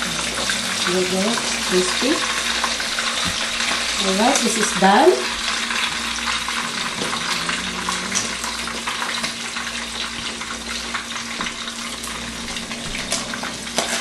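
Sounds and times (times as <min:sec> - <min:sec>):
fish sizzling in hot oil: 0:00.0 - 0:06.9, 0:07.8 - 0:12.3.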